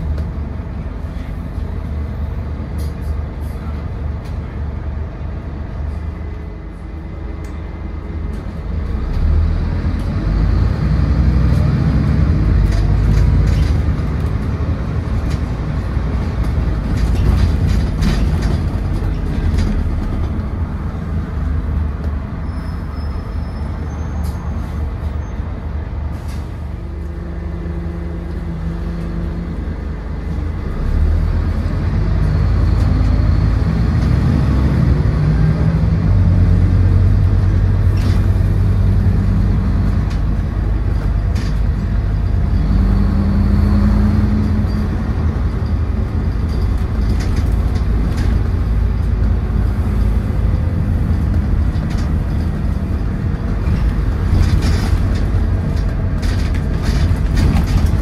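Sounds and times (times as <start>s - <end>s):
clicks and rattles in bus: 0.0s - 6.5s, 8.2s - 22.3s, 23.7s - 58.0s
bus engine: 0.0s - 58.0s.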